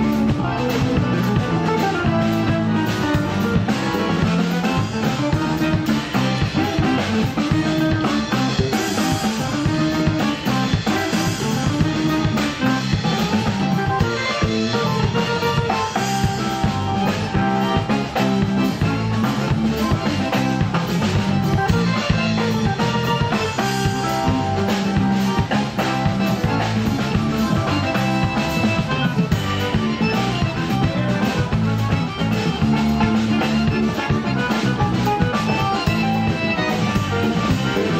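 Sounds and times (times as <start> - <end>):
accordion: 0.0 - 37.9
drum kit: 0.0 - 37.9
electric bass: 0.0 - 37.9
electric guitar: 0.0 - 37.9.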